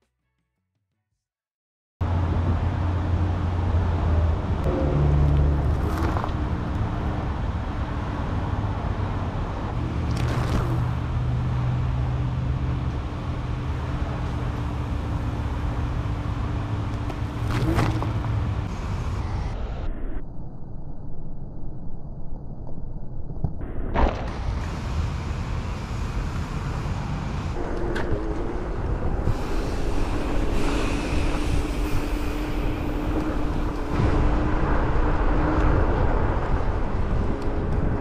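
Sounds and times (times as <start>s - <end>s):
heavy low rumble: 2.0s - 38.0s.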